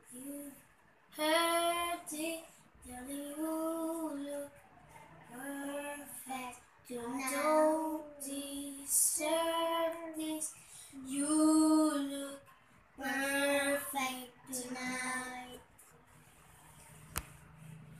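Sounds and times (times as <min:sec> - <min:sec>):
boy singing unaccompanied: 0:00.1 - 0:04.6, 0:05.3 - 0:15.6.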